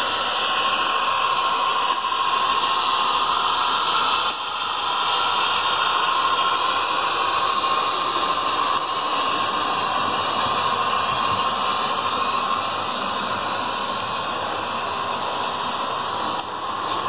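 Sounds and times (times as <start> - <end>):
faint motor whine: 0.0 - 17.0
model train wheels hissing on rail: 0.0 - 17.0.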